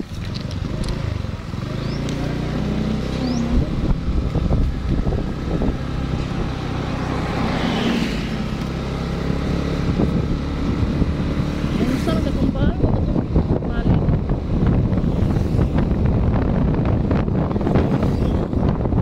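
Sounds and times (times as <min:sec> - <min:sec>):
vehicle engine with road rumble: 0:00.0 - 0:19.0.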